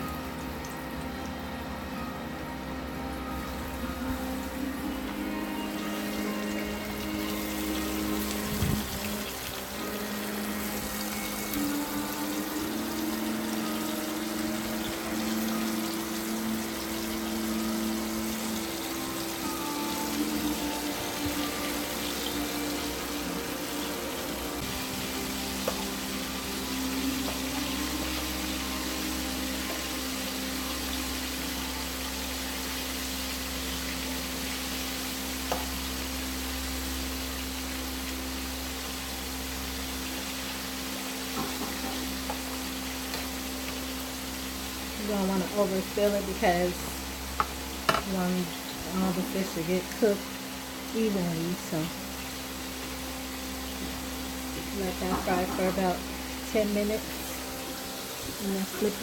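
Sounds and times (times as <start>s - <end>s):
oil sizzling with crackles: 3.0s - 59.0s.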